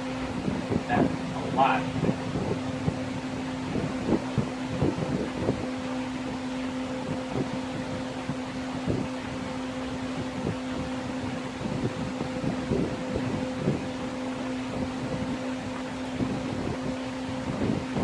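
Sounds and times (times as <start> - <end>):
fan motor humming: 0.0 - 18.0.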